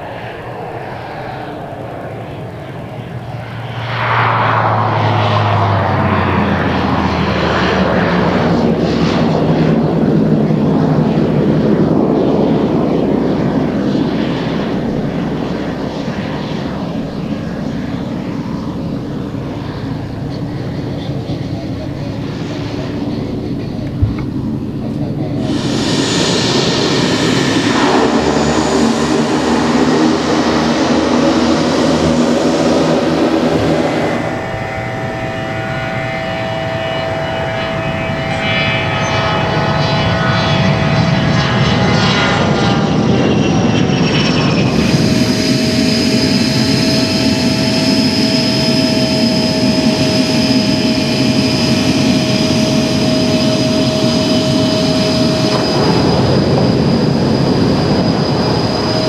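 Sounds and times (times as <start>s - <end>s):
turboprop engine running: 0.0s - 59.0s
whining turbine: 0.0s - 59.0s.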